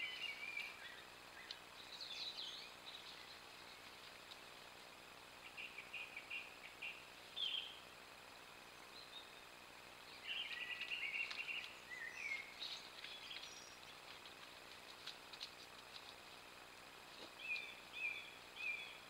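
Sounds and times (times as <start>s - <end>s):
faint steady hiss: 0.0s - 19.0s
songbird singing: 0.0s - 19.0s.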